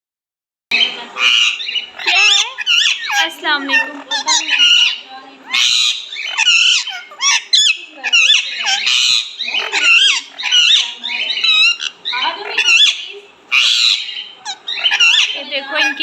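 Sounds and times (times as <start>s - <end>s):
parrot squawking and whistling: 0.7s - 16.0s.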